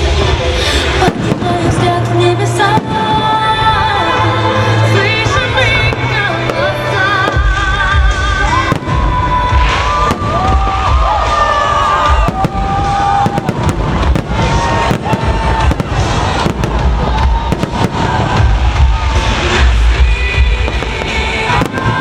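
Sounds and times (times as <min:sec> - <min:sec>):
fireworks bangs and crackling: 0:00.0 - 0:22.0
music playing: 0:00.0 - 0:22.0.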